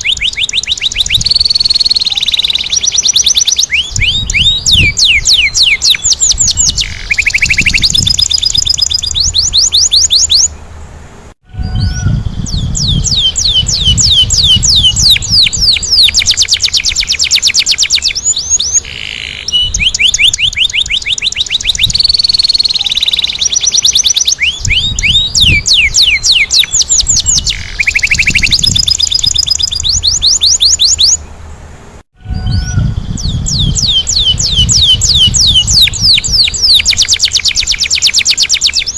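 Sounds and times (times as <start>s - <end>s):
canary singing trills: 0.0s - 10.7s, 11.6s - 31.4s, 32.2s - 38.9s.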